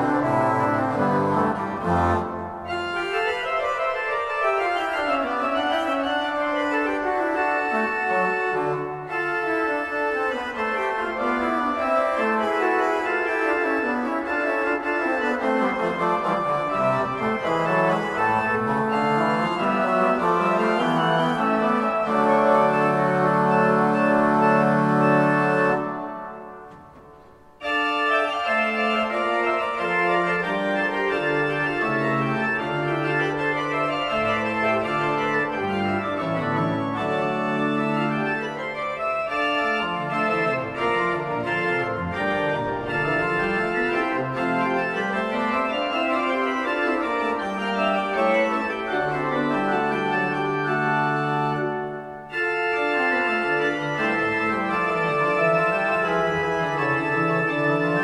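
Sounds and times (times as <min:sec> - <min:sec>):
pipe organ playing: 0:00.0 - 0:58.0.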